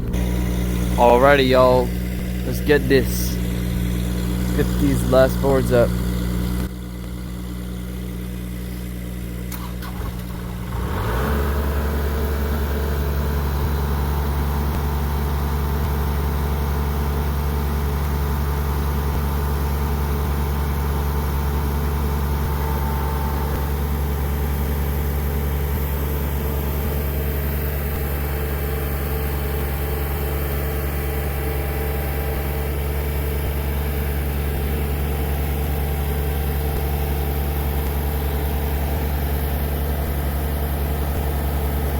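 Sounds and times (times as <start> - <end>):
machine engine running: 0.0 - 41.9.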